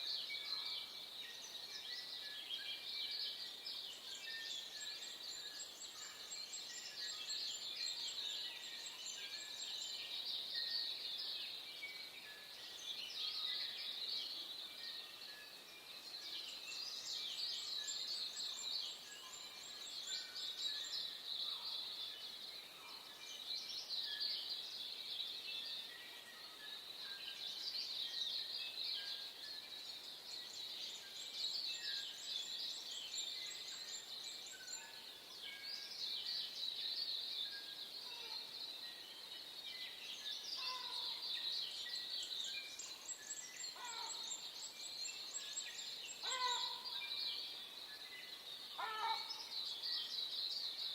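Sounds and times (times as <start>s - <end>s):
songbirds chirping and trilling: 0.0s - 50.9s.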